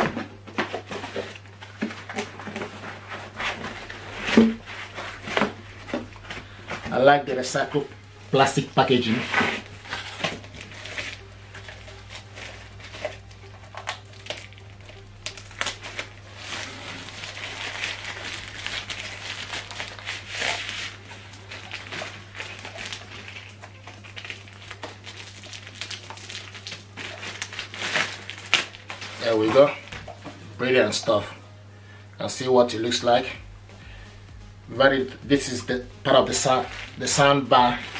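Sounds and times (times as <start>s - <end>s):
plastic film crinkling: 0.0s - 31.3s, 33.0s - 37.9s.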